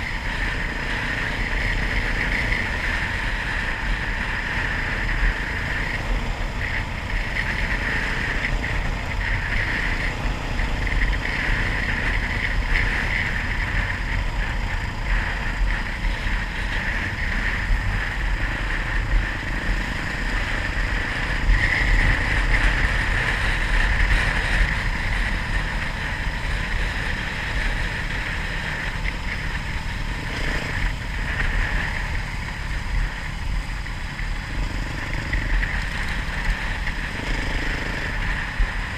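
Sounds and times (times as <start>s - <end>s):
off-road motorcycle engine running: 0.0s - 38.9s.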